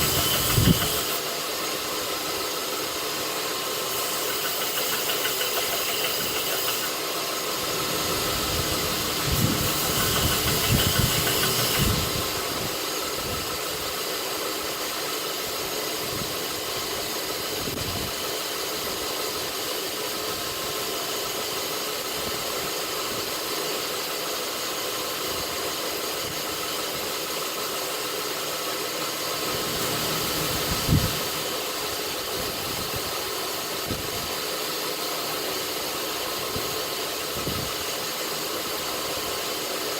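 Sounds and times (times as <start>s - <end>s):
belt grinder hissing: 0.0s - 39.9s.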